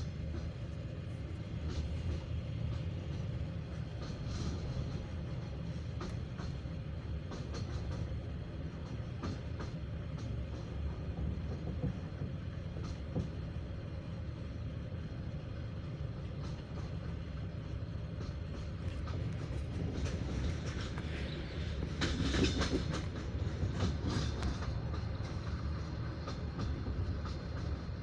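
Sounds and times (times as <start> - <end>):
wheels clicking over rail joints: 0.0 - 13.6, 16.2 - 28.0
train wheels rumbling on rails: 0.0 - 28.0.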